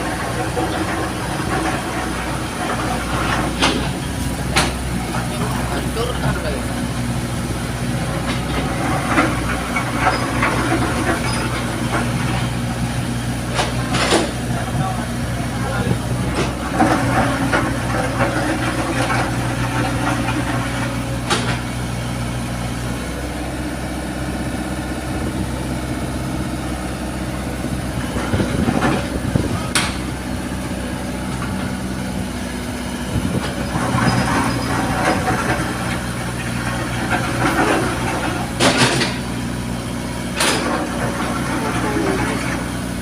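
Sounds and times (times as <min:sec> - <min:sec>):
heavy machine engine running: 0:00.0 - 0:43.0.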